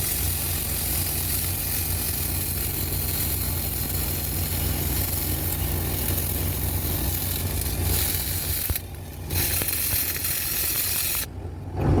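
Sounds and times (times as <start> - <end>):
welding arc sizzling and crackling: 0.0 - 11.3
low engine hum: 0.0 - 12.0.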